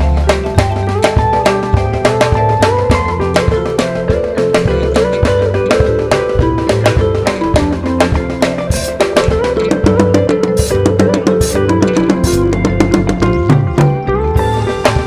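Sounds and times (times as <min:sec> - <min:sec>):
drum kit fast beat: 0:00.0 - 0:13.4, 0:14.4 - 0:15.0
bass guitar: 0:00.0 - 0:15.0
keyboard: 0:00.0 - 0:15.0
lead guitar: 0:00.0 - 0:15.0.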